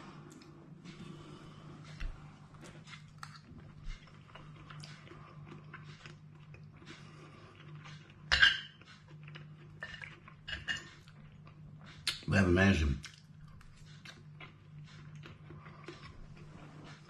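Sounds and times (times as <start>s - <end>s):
man chewing and eating: 0.0s - 12.3s, 13.0s - 17.0s.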